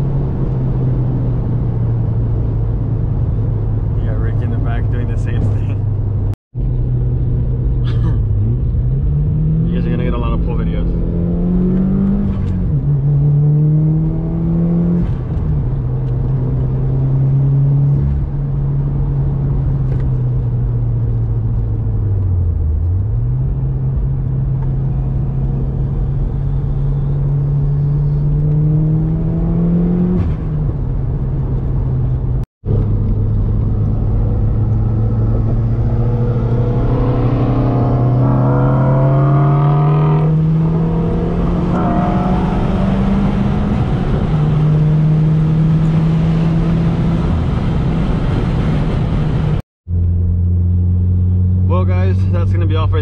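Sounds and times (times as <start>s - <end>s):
car engine drone from inside cabin: 0.0s - 53.0s.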